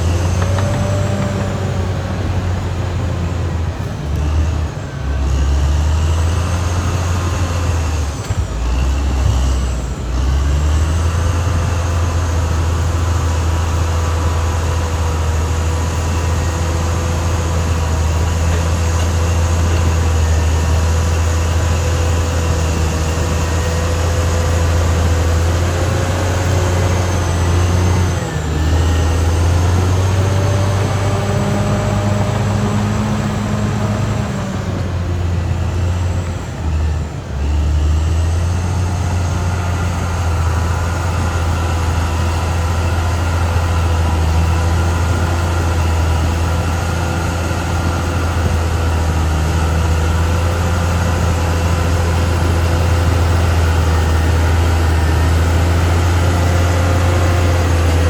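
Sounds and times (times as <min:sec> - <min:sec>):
bulldozer diesel rumble: 0:00.0 - 0:58.0
high whine: 0:00.0 - 0:58.0.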